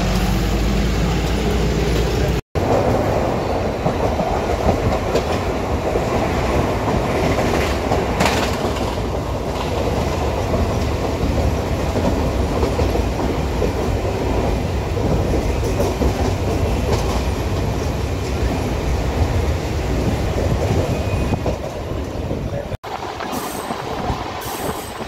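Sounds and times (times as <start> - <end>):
train wheels running on track: 0.0 - 25.0.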